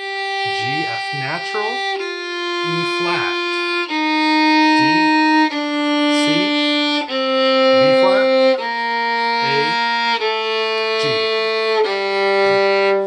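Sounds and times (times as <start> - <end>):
violin bowed notes: 0.0 - 13.0.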